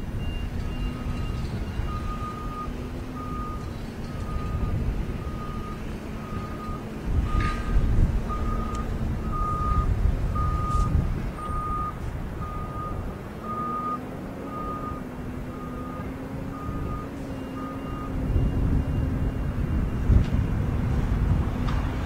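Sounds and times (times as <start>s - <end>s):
low engine rumble: 0.0s - 22.0s
reversing alarm beeping: 0.2s - 20.7s.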